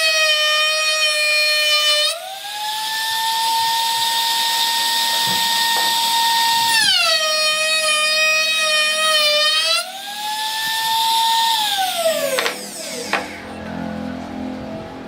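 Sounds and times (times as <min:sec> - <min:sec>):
power tool motor whining: 0:00.0 - 0:15.0.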